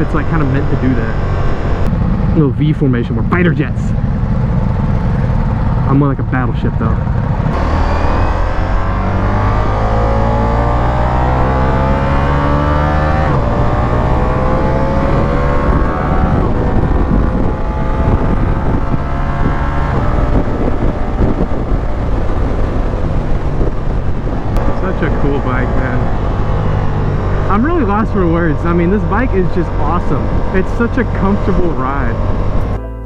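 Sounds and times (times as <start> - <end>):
motorcycle engine accelerating: 0.0 - 32.8.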